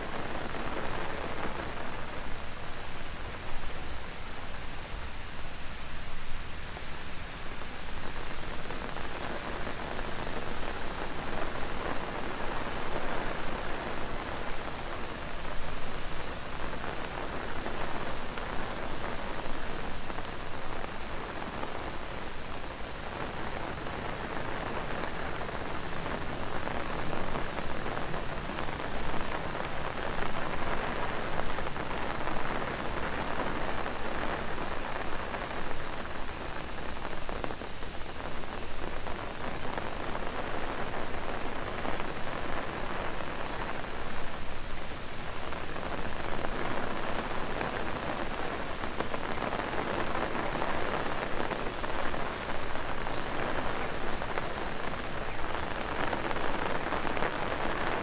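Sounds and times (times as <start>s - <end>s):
cicada drone: 0.0s - 58.0s
heavy rain on an umbrella: 0.0s - 58.0s.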